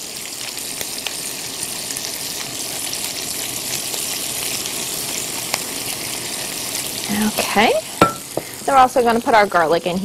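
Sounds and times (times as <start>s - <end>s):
pancetta sizzling in oil: 0.0s - 10.0s.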